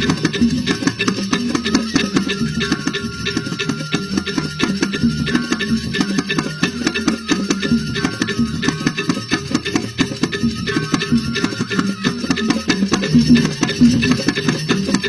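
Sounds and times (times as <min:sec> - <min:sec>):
bamboo xylophones playing fast: 0:00.0 - 0:15.0
percussion: 0:00.0 - 0:15.0.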